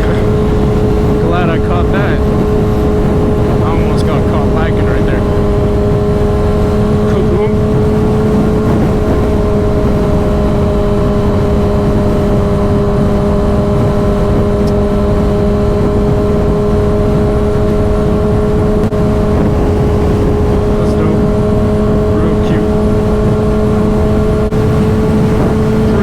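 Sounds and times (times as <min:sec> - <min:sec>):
heavy low rush: 0:00.0 - 0:26.0
motorcycle engine cruising: 0:00.0 - 0:26.0.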